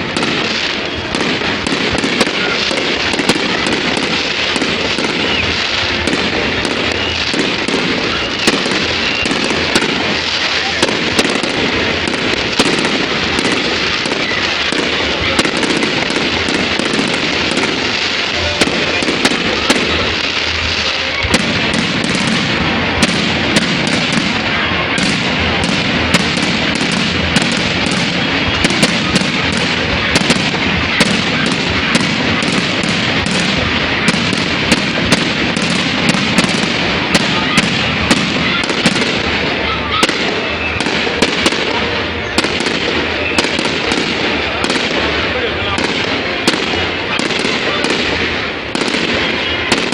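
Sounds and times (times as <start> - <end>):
fireworks crackling and popping: 0.0 - 49.9.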